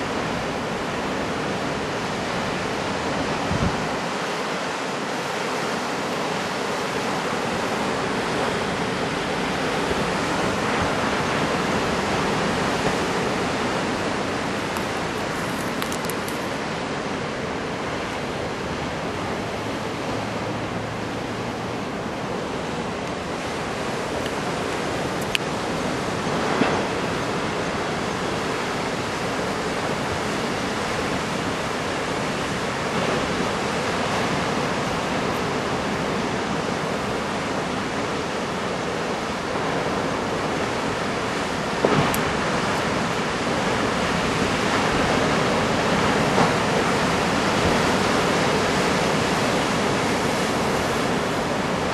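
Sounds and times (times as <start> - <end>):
surf breaking roar: 0.0 - 51.9
wind noise: 0.0 - 51.9.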